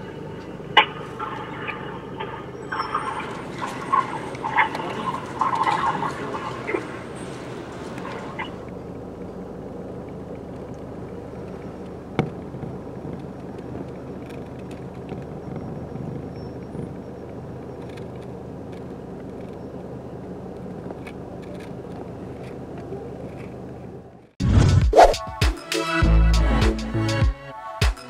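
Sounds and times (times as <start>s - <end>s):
vehicle engine idling: 0.0s - 24.4s
street noise: 0.0s - 28.0s.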